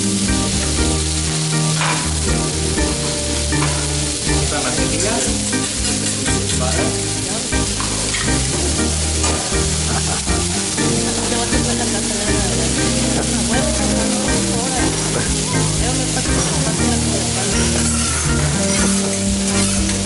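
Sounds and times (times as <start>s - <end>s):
background music: 0.0s - 20.0s
food sizzling on griddle: 0.0s - 20.0s.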